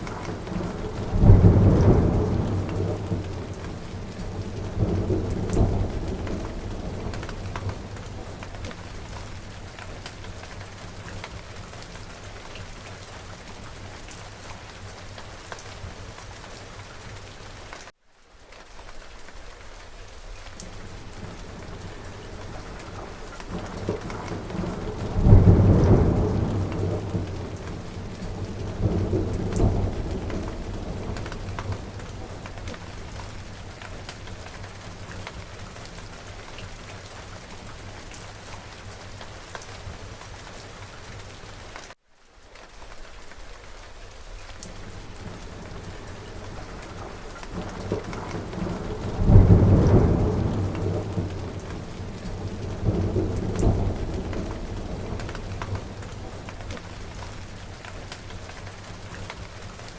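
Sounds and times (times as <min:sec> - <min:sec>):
thunder rumbling: 0:00.0 - 0:13.9, 0:20.7 - 0:40.3, 0:44.7 - 0:59.9
steady rain falling: 0:00.0 - 0:59.9.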